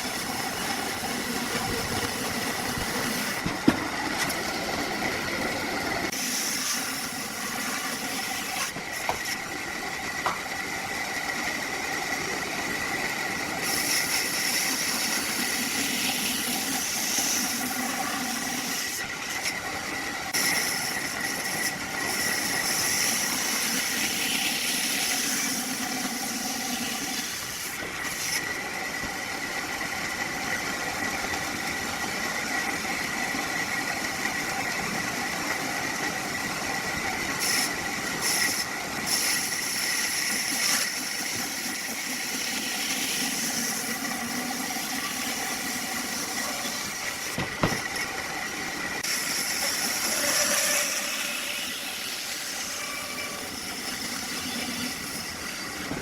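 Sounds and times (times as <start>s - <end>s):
woodworking machinery whine: 0.0s - 56.0s.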